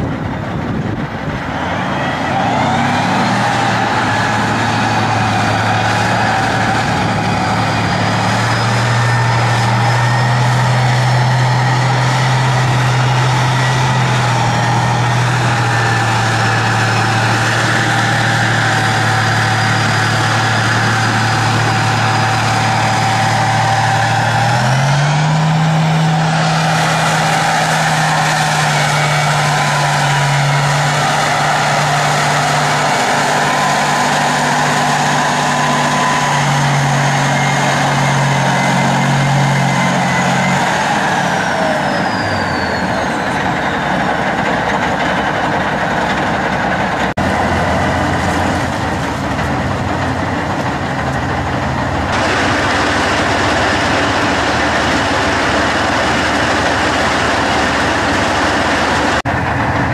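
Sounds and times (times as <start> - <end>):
high whine: 0.0 - 59.9
tank diesel engine running: 0.0 - 59.9.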